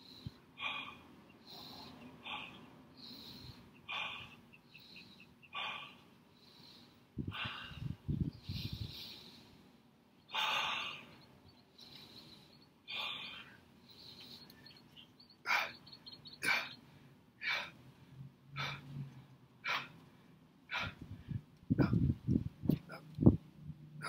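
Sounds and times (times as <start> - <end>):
man breathing hard: 0.0 - 17.9, 18.5 - 22.2.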